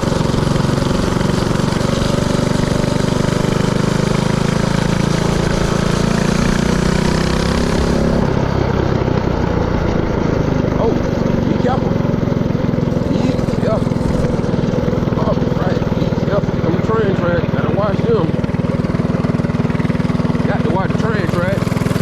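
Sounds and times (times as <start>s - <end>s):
mini-bike engine running: 0.0s - 22.0s.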